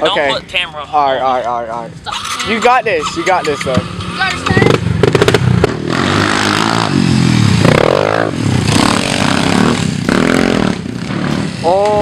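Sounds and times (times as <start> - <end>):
pit bike engine revving: 2.0 - 12.0.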